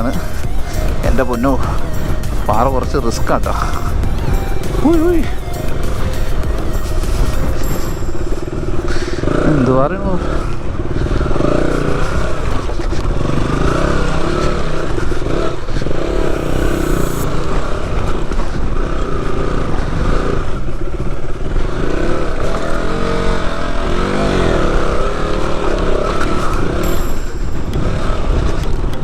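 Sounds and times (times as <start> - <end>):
off-road motorcycle engine revving: 0.0 - 29.0.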